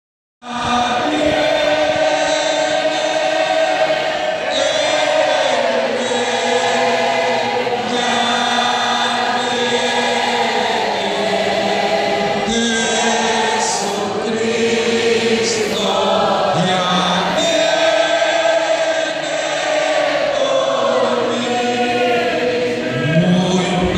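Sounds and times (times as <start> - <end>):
congregation singing a hymn: 0.4 - 23.9.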